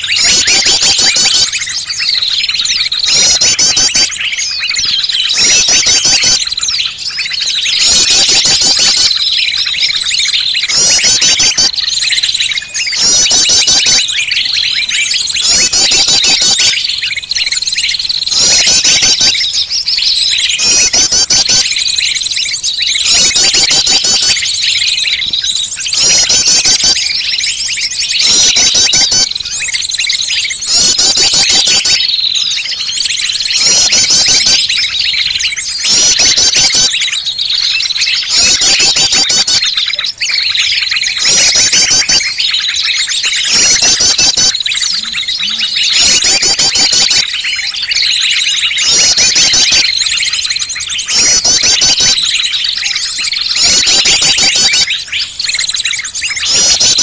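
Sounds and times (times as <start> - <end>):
rapid bird trills: 0.0 - 57.0
songbird chirps and calls: 0.0 - 57.0.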